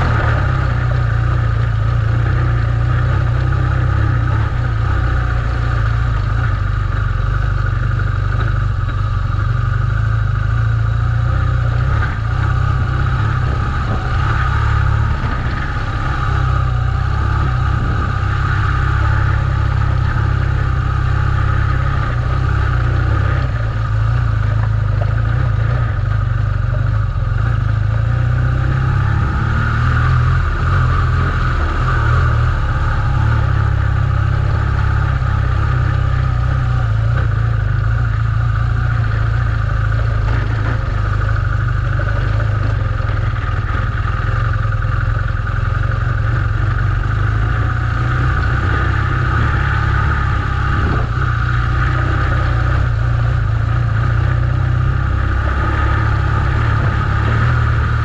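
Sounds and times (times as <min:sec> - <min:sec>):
motorcycle engine under load: 0:00.0 - 0:58.0.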